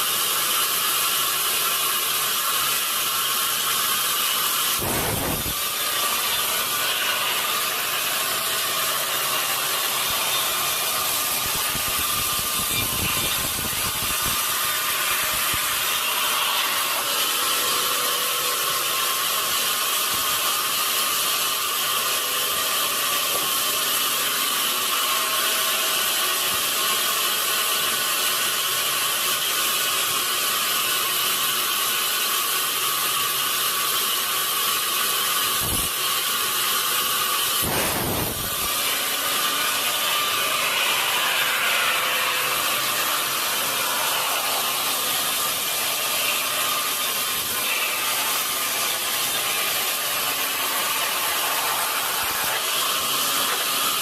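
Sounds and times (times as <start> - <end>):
saw cutting wood: 0.0 - 54.0.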